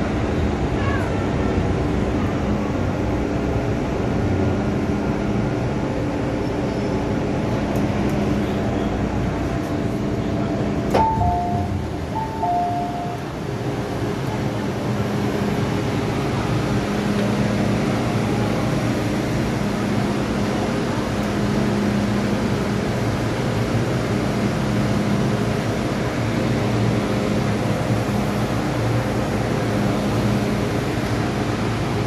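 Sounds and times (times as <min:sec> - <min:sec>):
electric train running: 0:01.6 - 0:32.0.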